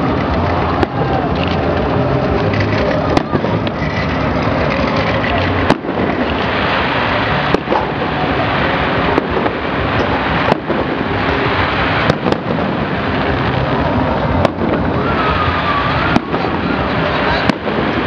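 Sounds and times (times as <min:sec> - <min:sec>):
continuous dense noise: 0:00.0 - 0:18.0
firework shells bursting: 0:00.0 - 0:18.0.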